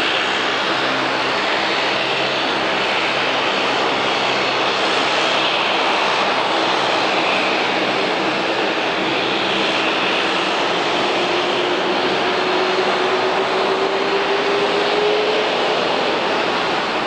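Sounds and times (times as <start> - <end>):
jet engines roaring: 0.0 - 17.0
rising engine whine: 0.0 - 17.0.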